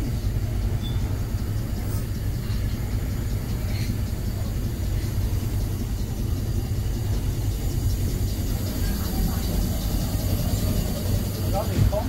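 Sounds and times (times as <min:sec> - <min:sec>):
ship machinery rumbling: 0:00.0 - 0:12.0.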